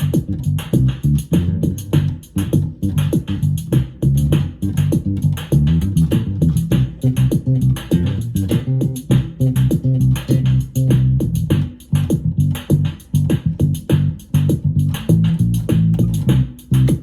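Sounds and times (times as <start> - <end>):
drum machine beat: 0.0 - 17.0
electric bass bassline: 0.0 - 17.0.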